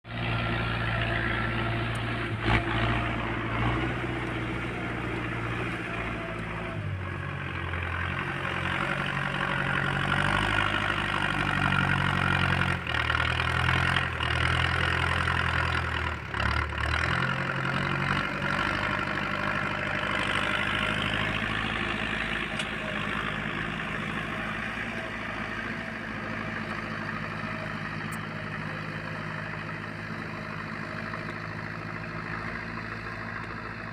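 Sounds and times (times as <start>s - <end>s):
tractor diesel engine running: 0.0s - 33.9s
implement grinding through soil: 0.1s - 33.9s.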